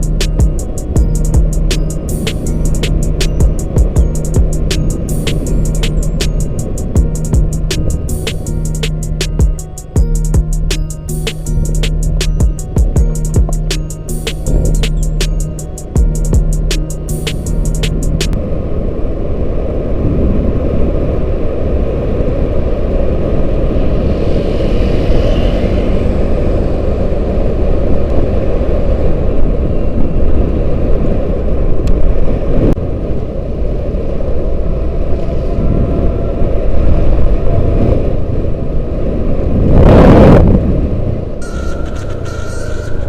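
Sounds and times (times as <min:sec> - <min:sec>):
vehicle engine rumble: 0:00.0 - 0:43.0
wind noise on microphone: 0:00.0 - 0:43.0.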